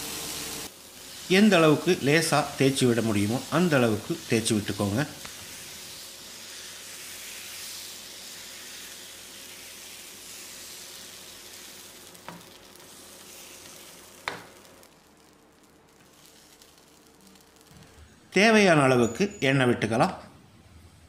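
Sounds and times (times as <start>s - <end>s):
batter sizzling on a griddle: 0.0s - 17.8s.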